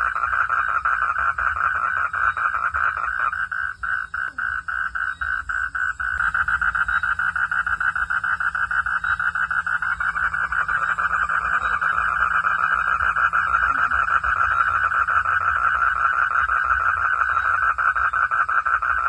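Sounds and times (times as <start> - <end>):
frogs calling in chorus: 0.0 - 19.0
insect trill: 0.0 - 19.0.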